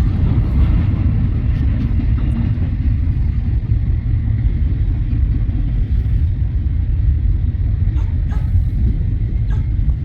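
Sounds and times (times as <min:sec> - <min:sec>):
freight train passing: 0:00.0 - 0:10.0.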